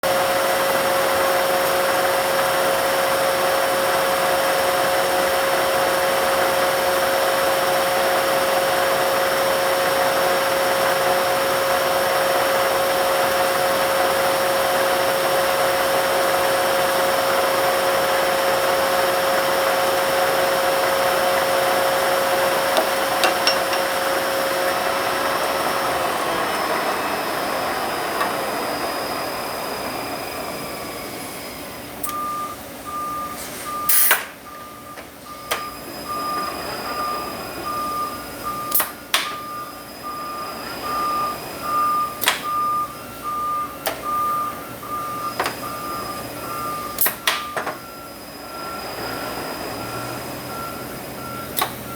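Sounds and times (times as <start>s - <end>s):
truck transmission whirring: 0.2s - 31.0s, 31.7s - 51.9s.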